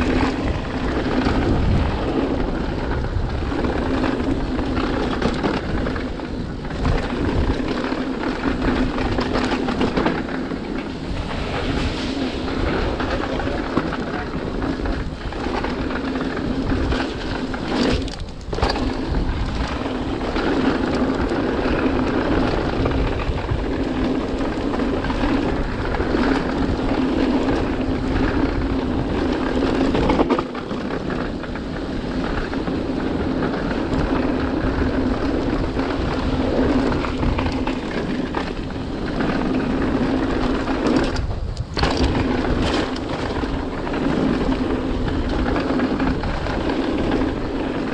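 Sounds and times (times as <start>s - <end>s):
bike tyres on ground: 0.0s - 47.9s
wind on microphone: 0.0s - 47.9s.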